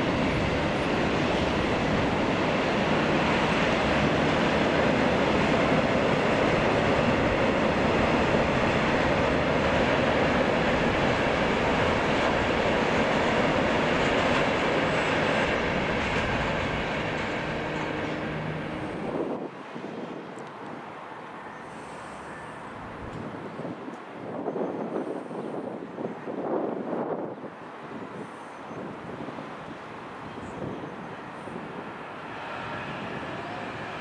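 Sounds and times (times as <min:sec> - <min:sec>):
train wheels rumbling on rail: 0:00.0 - 0:20.8, 0:21.8 - 0:34.0.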